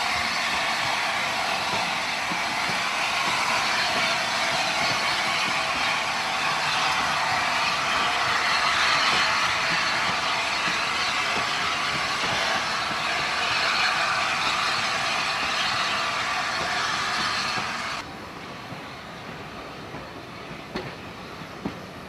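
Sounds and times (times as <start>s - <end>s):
train coaches rolling on rails: 0.0s - 22.0s.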